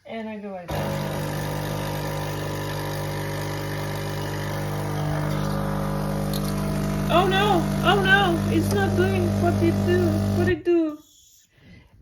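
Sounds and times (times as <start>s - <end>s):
espresso machine pump humming: 0.7s - 10.6s.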